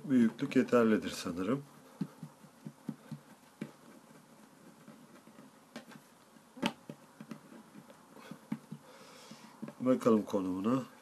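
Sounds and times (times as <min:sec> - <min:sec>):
hands patting play dough: 0:00.0 - 0:11.0.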